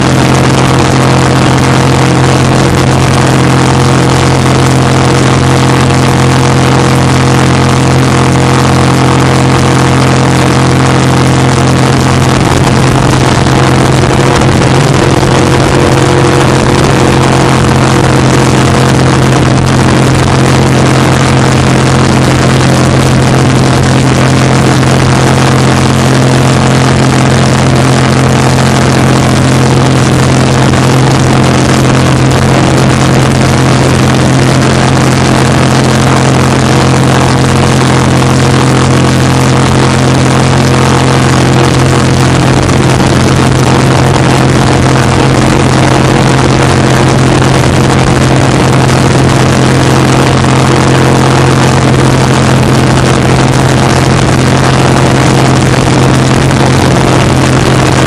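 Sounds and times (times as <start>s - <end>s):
jet boat engine running: 0.0s - 58.0s.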